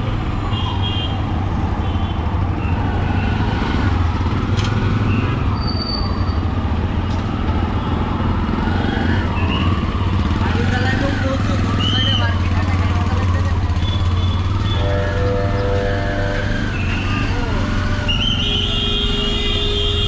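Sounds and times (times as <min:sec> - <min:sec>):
low street hum: 0:00.0 - 0:20.0
passing motor vehicles: 0:00.0 - 0:20.0.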